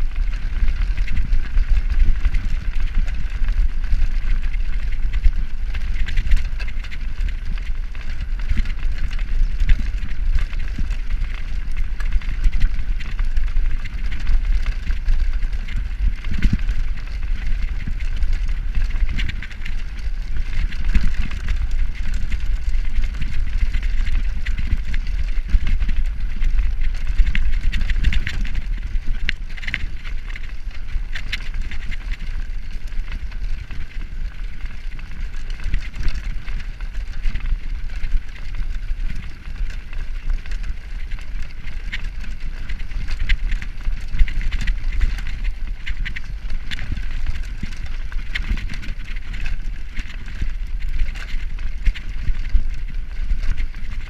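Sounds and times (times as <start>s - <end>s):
bike rattling: 0.0s - 54.0s
bike rumbling over cobblestones: 0.0s - 54.0s.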